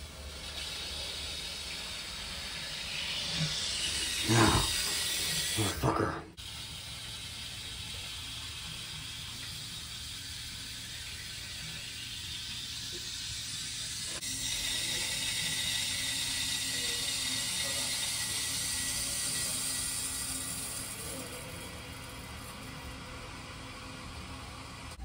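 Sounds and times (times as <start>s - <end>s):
water hissing through pipe: 0.0s - 25.0s.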